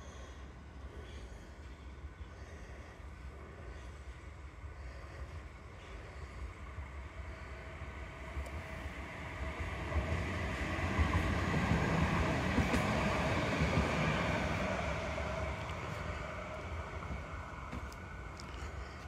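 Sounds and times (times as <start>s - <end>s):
tram passing on track: 0.0s - 19.0s.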